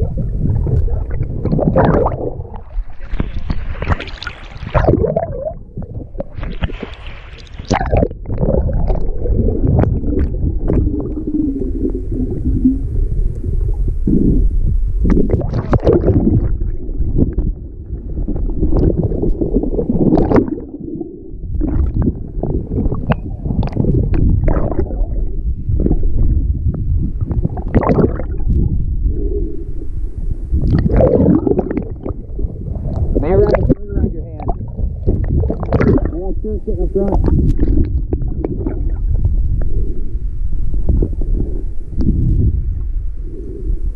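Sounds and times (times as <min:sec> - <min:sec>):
seawater sloshing and gurgling: 0:00.0 - 0:29.7, 0:30.5 - 0:43.9
waves splashing over microphone: 0:00.0 - 0:43.9.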